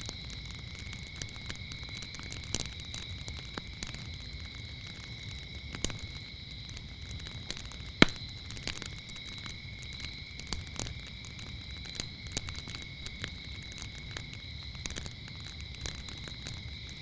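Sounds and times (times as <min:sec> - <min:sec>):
crickets trilling: 0:00.0 - 0:17.0
wood fire crackling and popping: 0:00.0 - 0:17.0.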